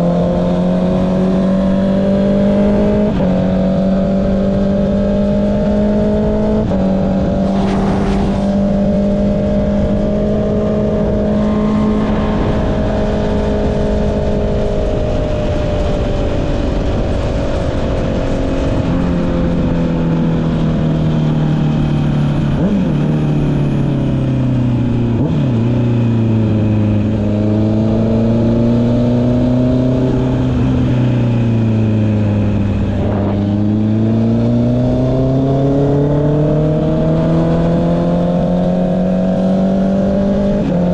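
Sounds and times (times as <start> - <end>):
wind rush: 0.0 - 21.4, 26.4 - 38.5
motorcycle engine: 0.0 - 40.9.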